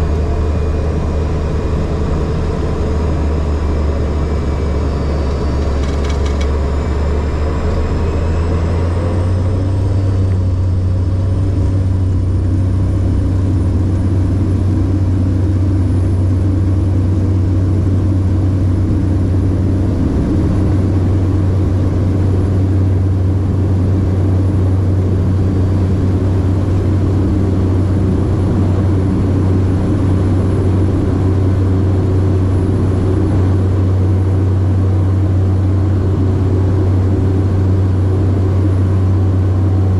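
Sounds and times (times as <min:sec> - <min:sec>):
deep propeller drone: 0:00.0 - 0:39.9
high turbine whine: 0:00.0 - 0:39.9.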